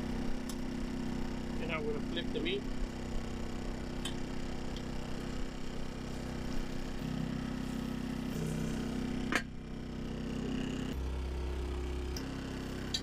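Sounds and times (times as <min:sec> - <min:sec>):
generator humming: 0:00.0 - 0:13.0.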